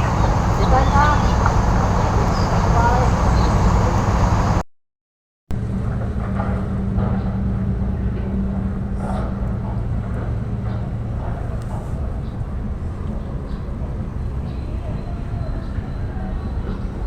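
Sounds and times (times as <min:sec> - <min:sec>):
low engine hum: 0:00.0 - 0:04.6, 0:05.5 - 0:17.0.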